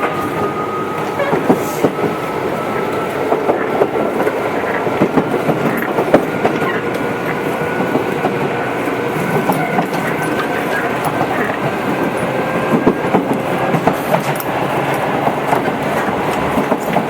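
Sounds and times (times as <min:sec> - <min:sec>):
train wheels rumbling on rail: 0:00.0 - 0:17.0
wheels clicking over rail joints: 0:00.0 - 0:17.0.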